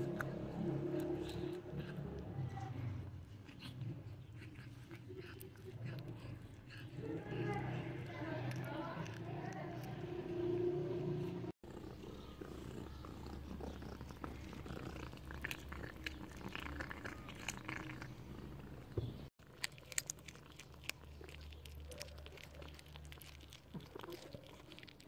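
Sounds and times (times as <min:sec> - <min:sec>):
cat chewing and licking: 0:00.0 - 0:25.0
cat purring: 0:00.0 - 0:25.0.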